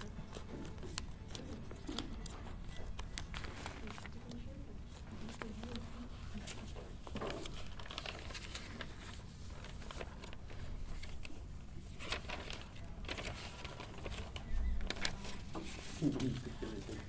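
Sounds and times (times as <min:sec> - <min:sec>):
low room hum: 0:00.0 - 0:17.0
paper rustling and crackling: 0:00.0 - 0:17.0.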